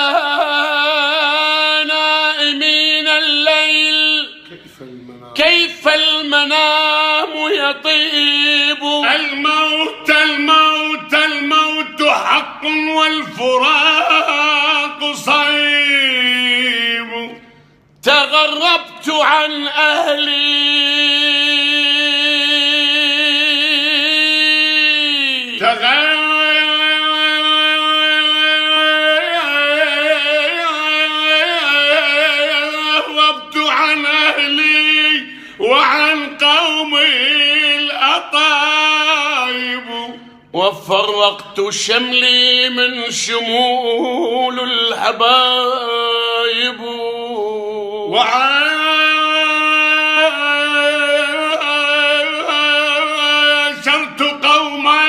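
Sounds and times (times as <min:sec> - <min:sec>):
man singing melismatic melody: 0:00.0 - 0:04.5, 0:05.2 - 0:55.0.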